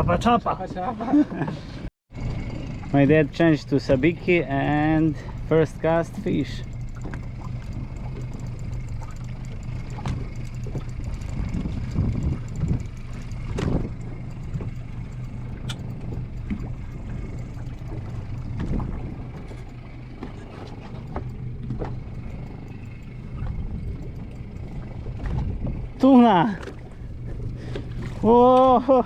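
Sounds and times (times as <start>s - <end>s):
boat engine running: 0.0s - 29.0s
knocks and clatter on boat: 0.0s - 29.0s.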